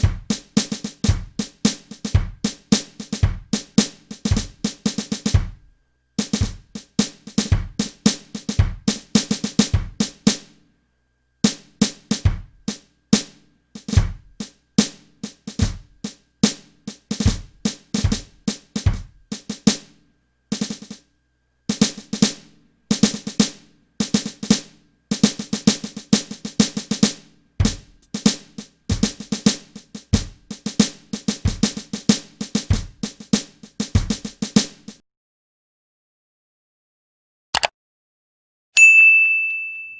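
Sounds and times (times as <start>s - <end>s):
electronic drum kit fills: 0.0s - 10.6s, 11.4s - 21.0s, 21.7s - 35.0s.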